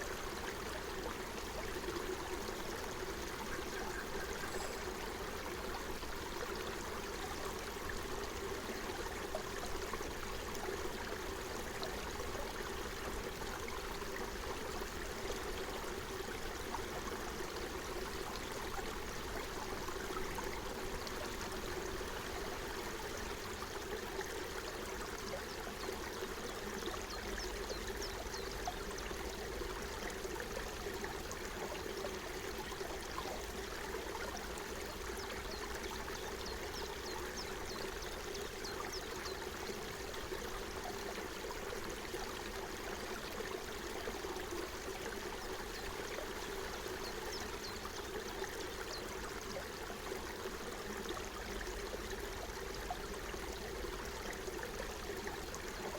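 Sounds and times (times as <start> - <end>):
forest stream babbling: 0.0 - 55.9.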